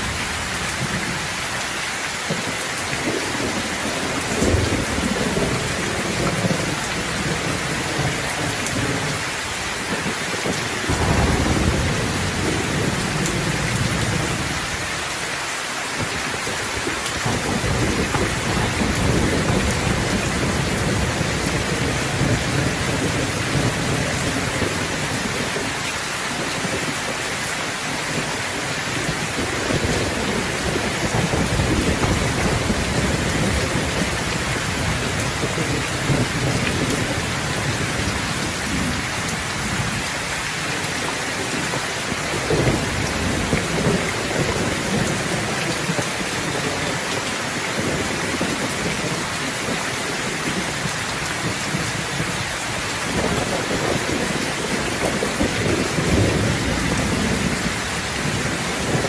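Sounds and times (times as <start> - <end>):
heavy rain hissing: 0.0 - 59.0
rolling thunder: 2.9 - 9.3, 9.9 - 15.2, 16.0 - 25.8, 28.0 - 40.6, 41.4 - 47.0, 47.7 - 59.0.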